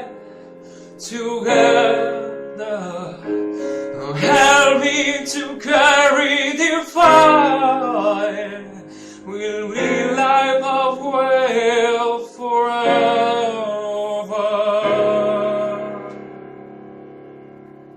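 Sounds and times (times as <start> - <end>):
person singing: 0.0 - 16.2.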